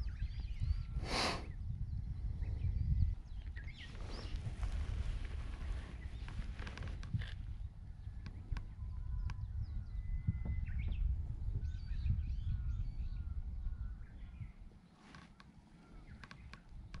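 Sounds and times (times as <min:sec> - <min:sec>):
birds calling and singing: 0:00.0 - 0:17.0.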